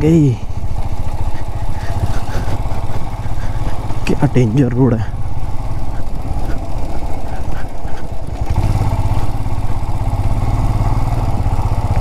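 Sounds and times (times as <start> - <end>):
single-cylinder motorcycle engine: 0.0 - 12.0.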